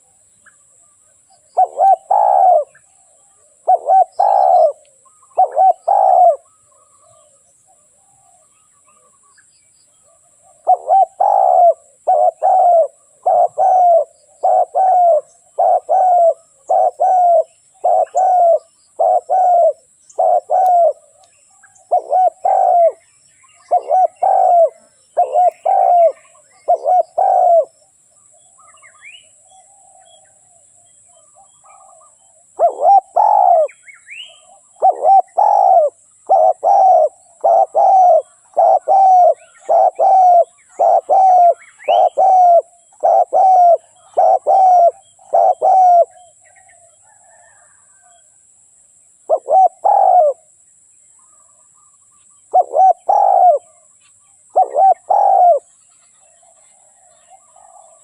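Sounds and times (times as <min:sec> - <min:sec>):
faint bird chirps: 0:00.0 - 0:58.0
dove cooing: 0:01.4 - 0:09.2, 0:10.0 - 0:27.8, 0:28.6 - 0:48.2, 0:49.3 - 0:50.6, 0:52.4 - 0:53.9, 0:54.5 - 0:58.0.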